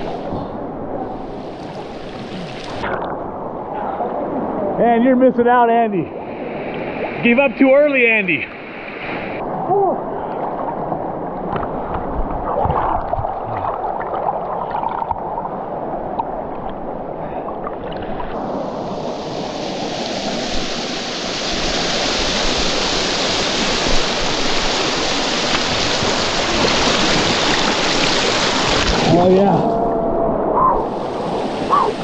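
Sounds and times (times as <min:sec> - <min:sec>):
rushing river water: 0:00.0 - 0:32.0
water splashing: 0:01.2 - 0:04.6, 0:06.1 - 0:16.8, 0:17.6 - 0:32.0.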